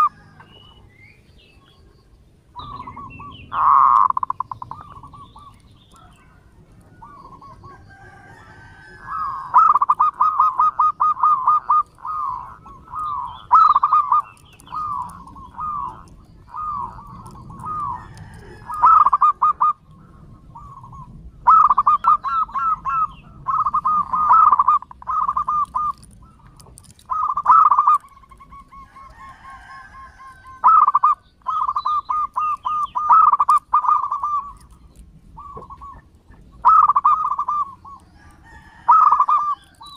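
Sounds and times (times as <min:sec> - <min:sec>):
dove cooing: 0:00.0 - 0:01.0, 0:01.6 - 0:39.9.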